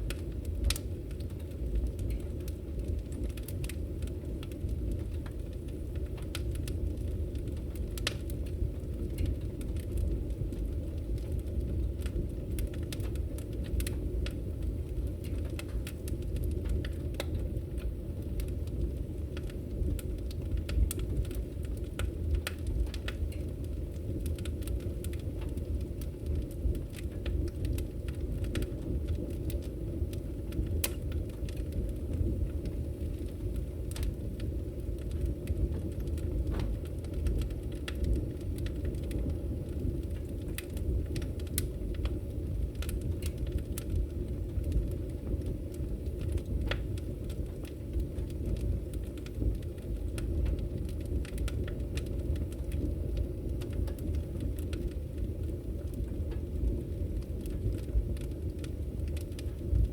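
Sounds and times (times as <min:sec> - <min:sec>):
fire roaring with crackles and pops: 0:00.0 - 0:59.9.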